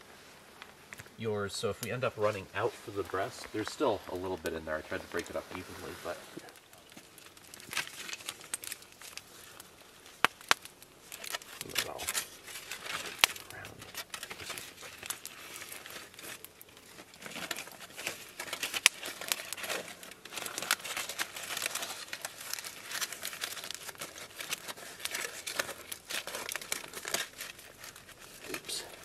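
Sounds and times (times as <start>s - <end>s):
aluminium foil crinkling: 0.5s - 29.0s
foil sharp snap: 1.8s - 29.0s.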